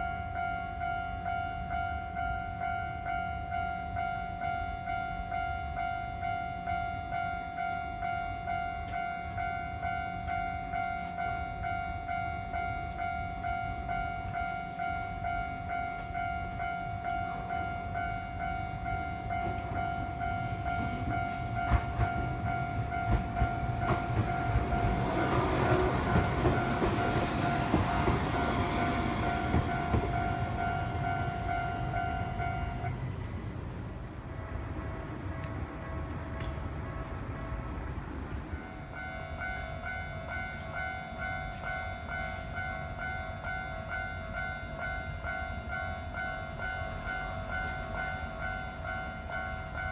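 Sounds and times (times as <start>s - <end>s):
level-crossing warning bell ringing: 0.0s - 49.9s
train rumble and wheel clicks: 0.0s - 49.9s.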